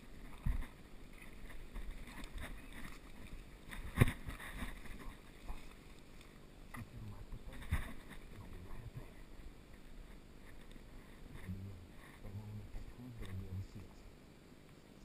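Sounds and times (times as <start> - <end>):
rustling leaves and brush: 0.0 - 15.0.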